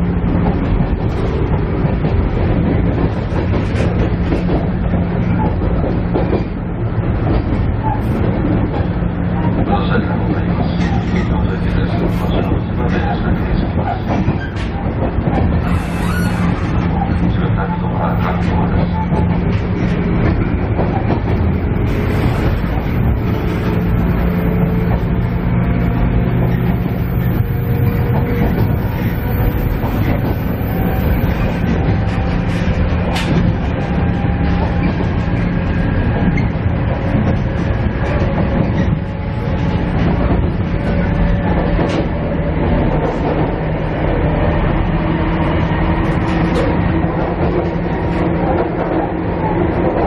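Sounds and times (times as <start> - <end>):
wheel-on-rail noise: 0.0 - 50.0.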